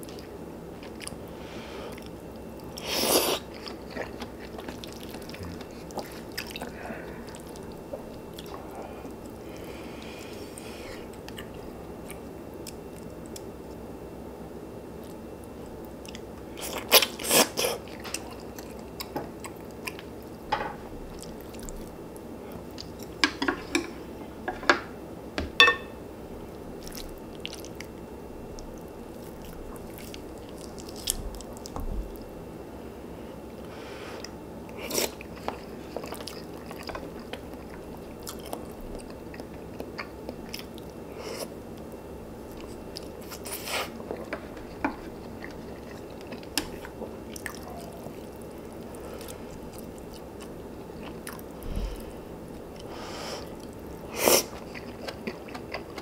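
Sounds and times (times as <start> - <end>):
person chewing: 0.0 - 1.2, 1.9 - 13.6, 15.0 - 20.3, 21.1 - 23.9, 26.8 - 32.3, 34.2 - 56.0.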